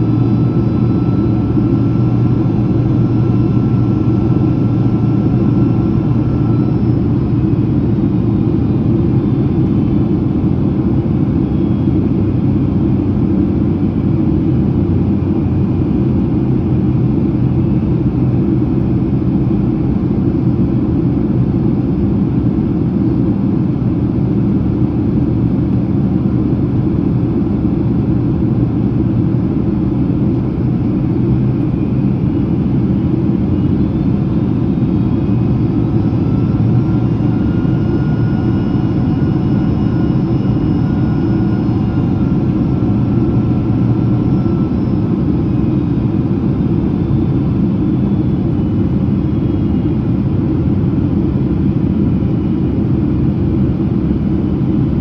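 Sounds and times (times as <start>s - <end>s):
airplane cabin roar: 0.0s - 55.0s
high engine whine: 0.0s - 55.0s.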